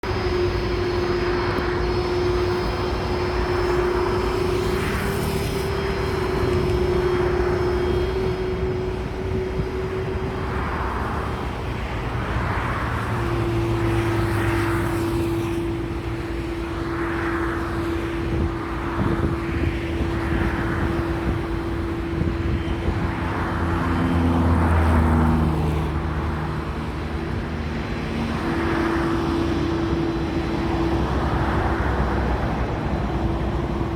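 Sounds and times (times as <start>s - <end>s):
jet engines running: 0.0s - 33.9s.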